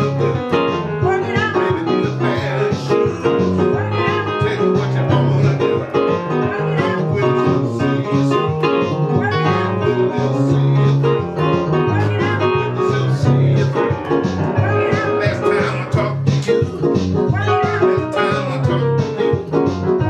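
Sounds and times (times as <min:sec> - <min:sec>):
held low bass notes: 0:00.0 - 0:20.0
keyboard instrumental music: 0:00.0 - 0:20.0.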